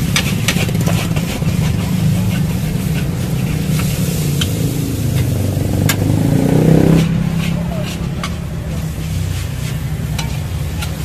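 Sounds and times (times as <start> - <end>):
metal spatula scraping a wok: 0.0 - 11.0
noodles stir-frying in a wok: 0.0 - 11.0.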